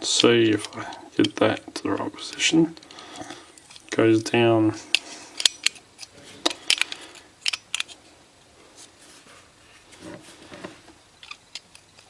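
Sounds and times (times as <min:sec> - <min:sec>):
soft handling noises: 0:00.1 - 0:12.0.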